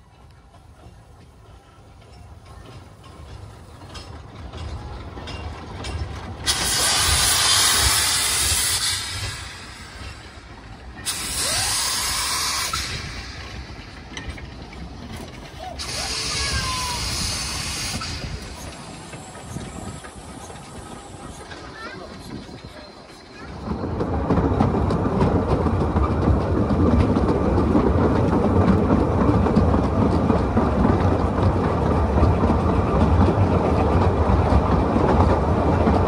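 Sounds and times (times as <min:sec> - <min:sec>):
low rumble of train running: 0:00.0 - 0:36.0
steam locomotive hissing: 0:00.0 - 0:36.0.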